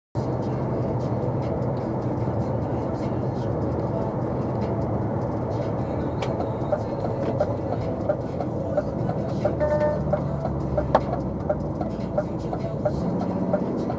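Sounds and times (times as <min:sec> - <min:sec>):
road noise: 0:00.2 - 0:13.9
truck engine: 0:00.2 - 0:13.9.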